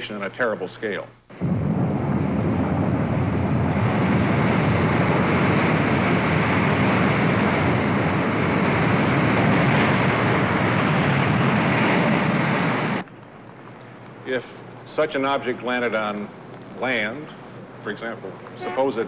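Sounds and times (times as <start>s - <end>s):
ocean waves breaking: 1.3s - 19.0s.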